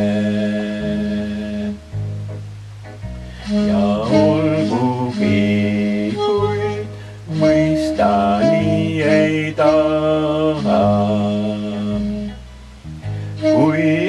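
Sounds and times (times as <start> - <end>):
person singing slow melody: 0.0 - 2.2, 3.2 - 14.0
instrumental accompaniment: 1.7 - 14.0.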